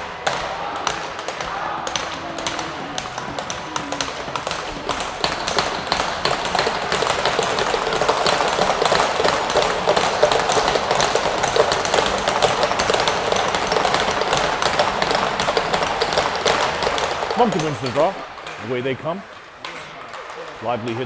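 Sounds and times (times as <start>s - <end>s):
crowd clapping and cheering: 0.0s - 21.0s.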